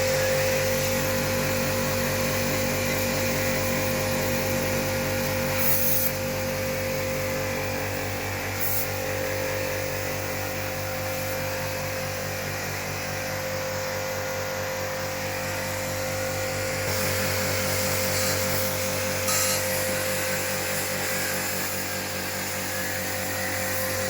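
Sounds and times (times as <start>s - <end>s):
pressure washer pump humming: 0.0s - 24.0s.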